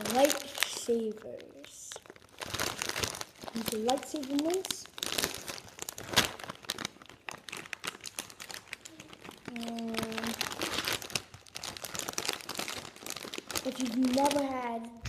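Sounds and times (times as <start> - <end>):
plastic candy bag crinkling: 0.0 - 15.0.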